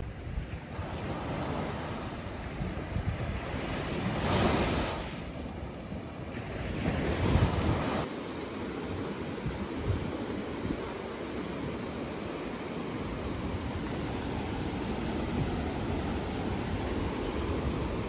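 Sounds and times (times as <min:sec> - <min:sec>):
wind buffeting microphone: 0:00.0 - 0:08.1, 0:08.9 - 0:18.0
small waves breaking on sand: 0:00.0 - 0:18.0.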